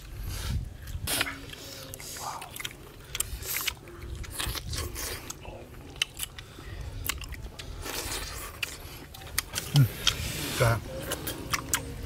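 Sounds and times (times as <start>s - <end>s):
people biting and chewing: 0.0s - 12.0s.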